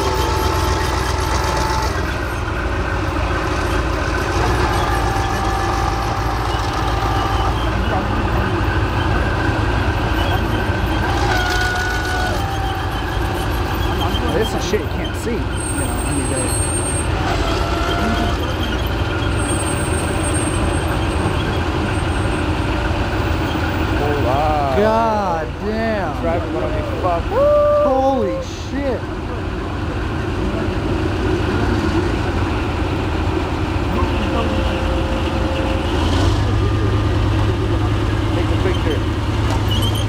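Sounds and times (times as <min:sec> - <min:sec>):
diesel engine rumbling: 0:00.0 - 0:40.0.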